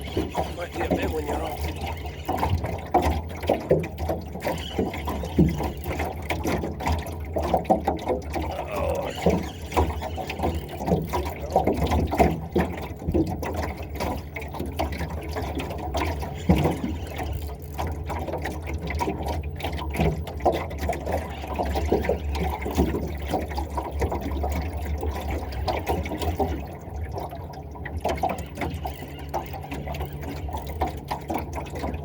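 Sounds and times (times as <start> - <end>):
water sloshing and lapping: 0.0 - 32.0.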